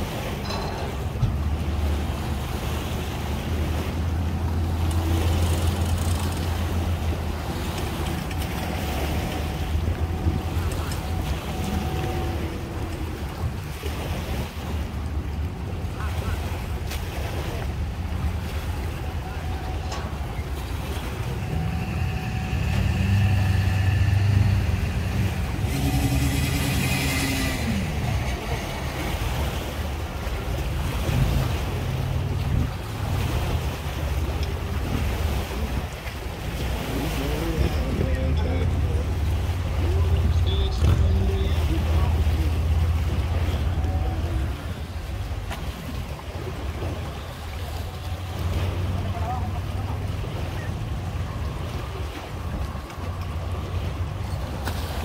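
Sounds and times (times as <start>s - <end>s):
wind rumble on microphone: 0.0s - 55.0s
engines running: 0.4s - 17.0s, 17.6s - 55.0s.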